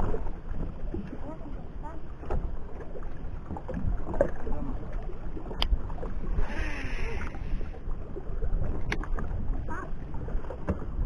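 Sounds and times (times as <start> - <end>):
boat motor rumble: 0.0 - 11.0
water: 0.0 - 11.0
wind: 0.0 - 11.0.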